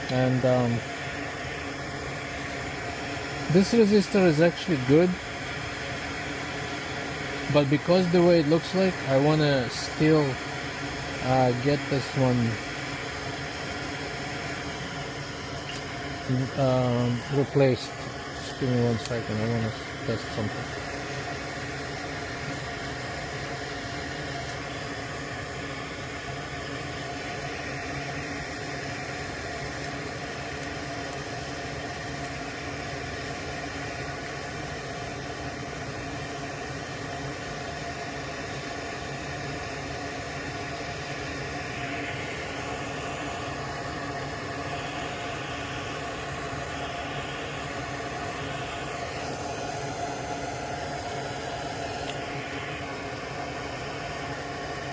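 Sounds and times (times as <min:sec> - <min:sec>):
machine hum with hiss: 0:00.0 - 0:54.9.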